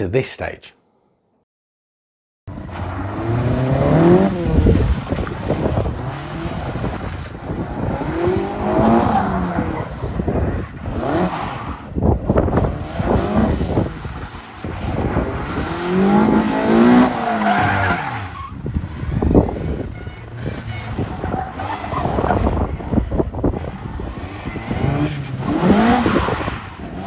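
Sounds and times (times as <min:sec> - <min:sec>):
car engine revving hard: 0:02.6 - 0:27.0.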